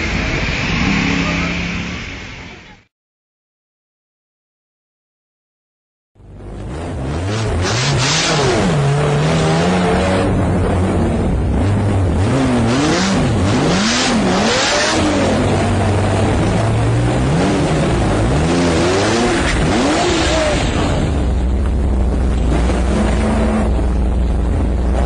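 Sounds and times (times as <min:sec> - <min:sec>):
sports car engines revving: 0:00.0 - 0:02.6, 0:06.2 - 0:25.0.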